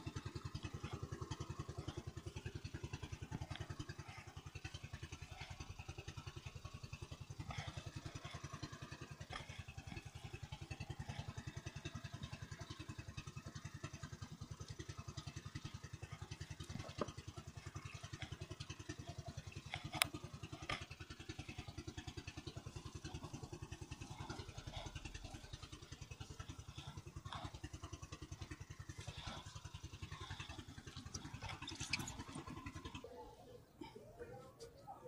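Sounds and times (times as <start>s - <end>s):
small boat engine running: 0.0s - 35.0s.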